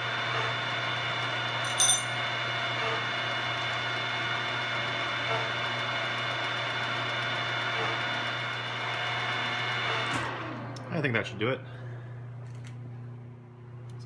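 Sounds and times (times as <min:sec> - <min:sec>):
milling machine motor hum and whine: 0:02.3 - 0:14.0.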